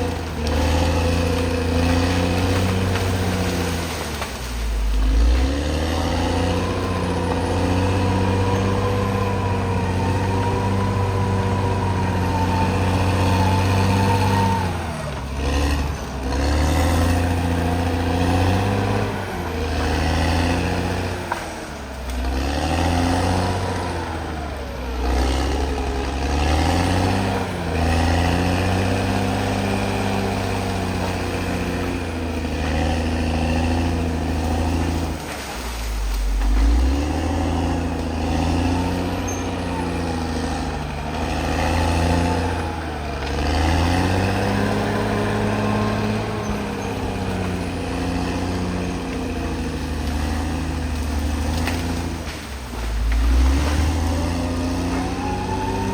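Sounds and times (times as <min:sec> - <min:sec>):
bulldozer diesel engine under load: 0:00.0 - 0:55.9.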